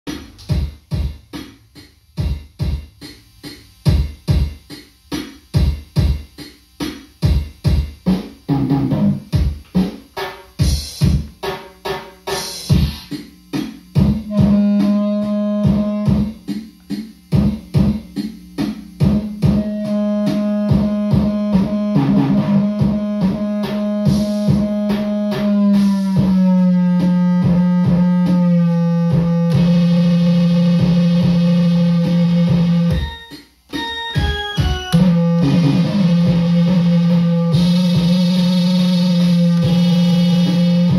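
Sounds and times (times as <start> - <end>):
electronic drum machine beat: 0.1 - 40.9.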